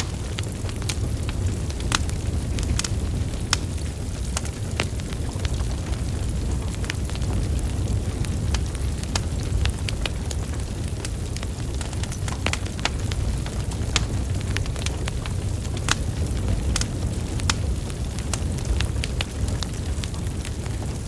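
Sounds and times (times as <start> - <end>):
fire crackles and pops: 0.0 - 21.0
low rumble of flames: 0.0 - 21.0.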